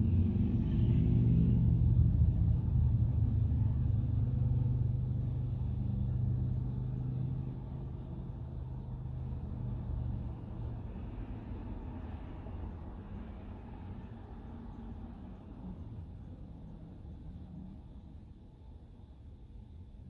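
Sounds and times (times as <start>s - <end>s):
vehicle engine humming: 0.0s - 17.7s.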